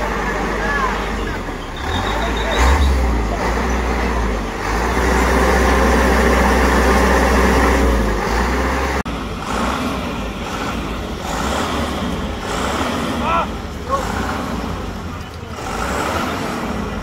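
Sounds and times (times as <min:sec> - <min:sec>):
diesel engine rumbling: 0:00.0 - 0:17.0
harbour background noise: 0:00.0 - 0:17.0.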